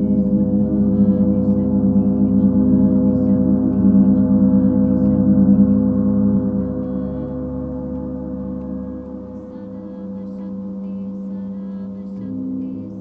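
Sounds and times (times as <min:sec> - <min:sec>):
gong shimmering tones: 0:00.0 - 0:13.0.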